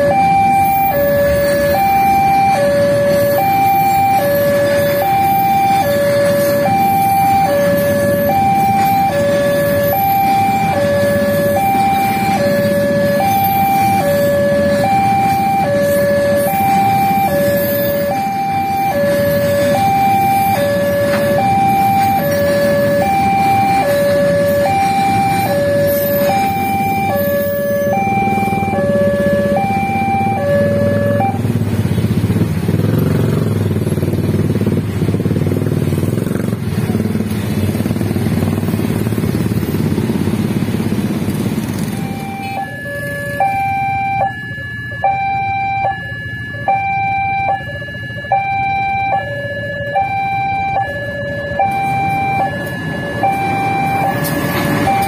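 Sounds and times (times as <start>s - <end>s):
freight train rolling on rails: 0.0s - 43.4s, 52.0s - 55.0s
two-tone crossing alarm: 0.0s - 55.0s.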